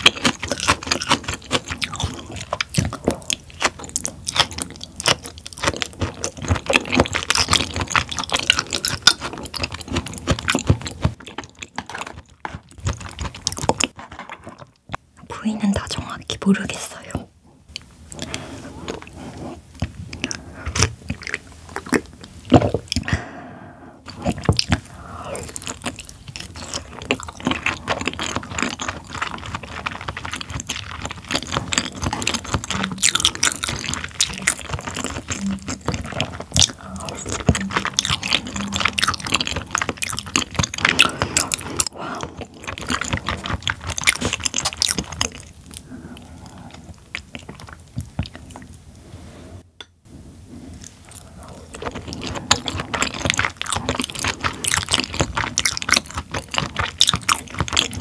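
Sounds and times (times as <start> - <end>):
chewing raw fish: 0.0 - 15.2, 17.7 - 23.3, 24.0 - 49.0, 50.7 - 58.0.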